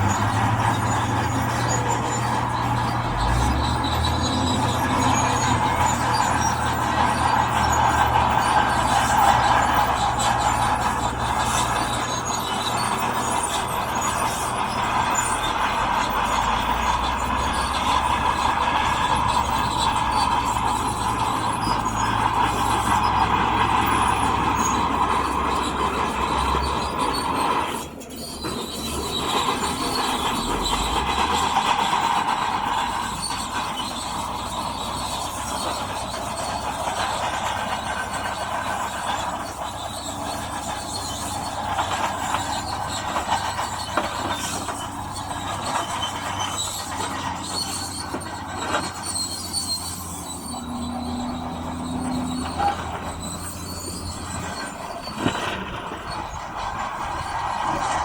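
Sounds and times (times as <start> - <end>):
diesel earthmover engine hum: 0.0 - 58.0
metallic squeal and clatter: 0.0 - 58.0.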